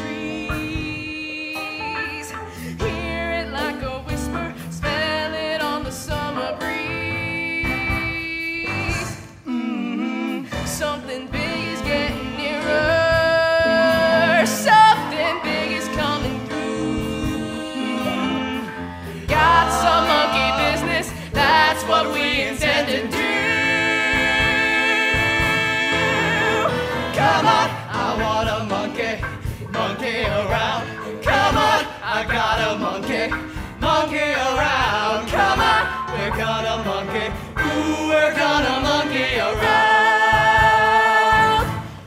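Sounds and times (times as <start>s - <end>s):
singers with band: 5.6s - 42.0s.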